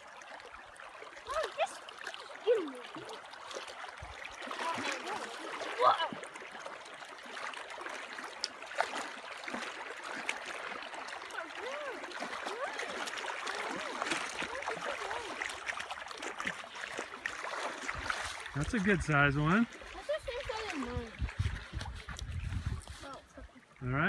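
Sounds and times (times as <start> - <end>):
river rippling over shallows: 0.0 - 24.0.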